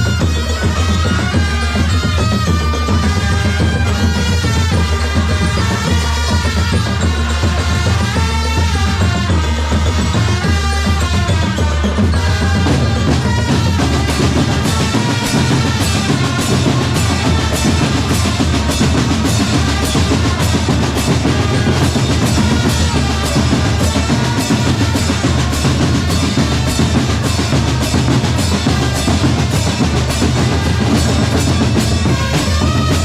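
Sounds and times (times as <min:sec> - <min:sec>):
bass drums beating: 0:00.0 - 0:33.0
snare drums beating with rolls: 0:00.0 - 0:33.0.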